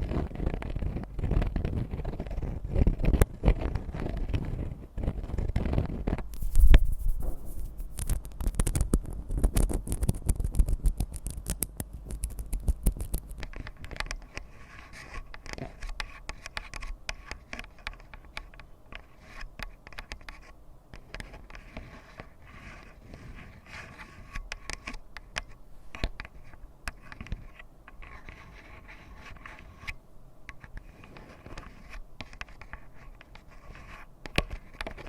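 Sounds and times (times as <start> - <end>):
tapping and scratching on objects: 0.0 - 35.0.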